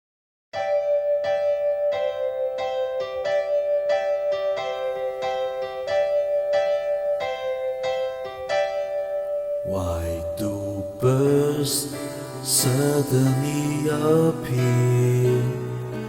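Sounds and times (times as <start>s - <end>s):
electric piano chords: 0.6s - 16.0s.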